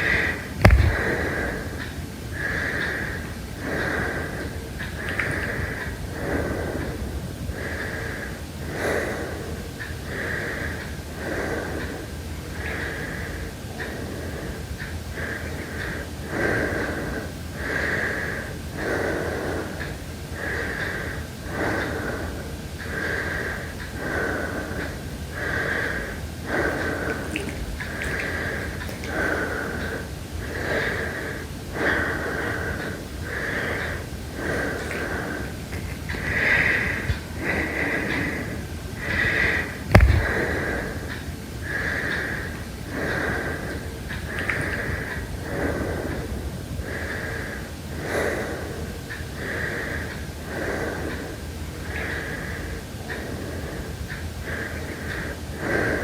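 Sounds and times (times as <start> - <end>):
heavy breathing: 0.0 - 56.0.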